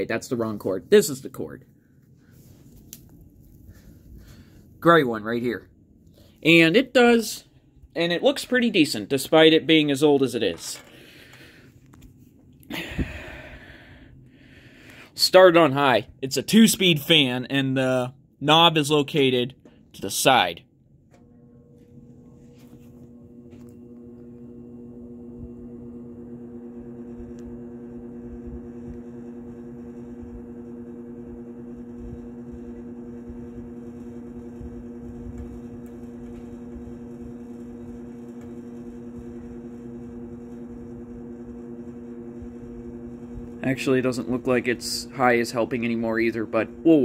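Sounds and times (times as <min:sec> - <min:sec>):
box fan motor hum: 0:00.0 - 0:47.0.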